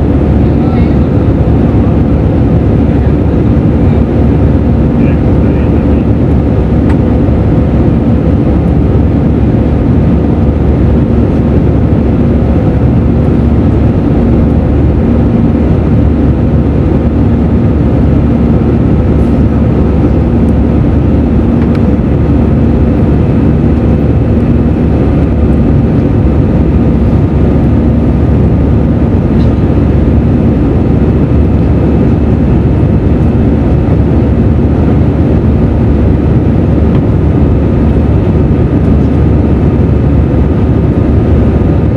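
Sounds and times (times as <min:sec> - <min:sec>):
jet engine drone: 0:00.0 - 0:41.9
low steady hum: 0:00.0 - 0:41.9
rushing air in cabin: 0:00.0 - 0:41.9.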